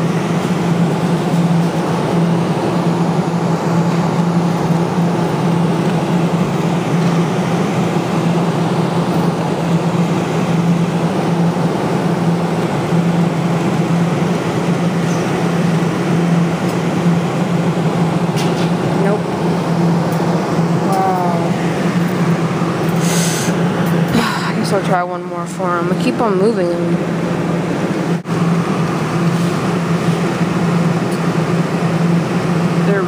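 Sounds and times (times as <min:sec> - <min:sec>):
arcade machine hum and hiss: 0:00.0 - 0:33.0.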